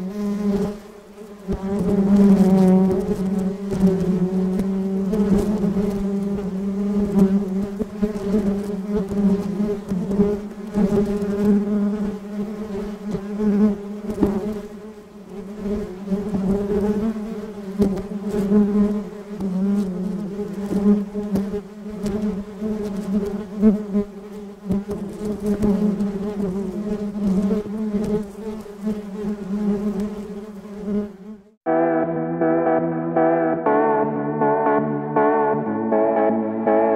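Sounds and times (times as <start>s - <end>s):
honeybees buzzing: 0.0s - 31.4s.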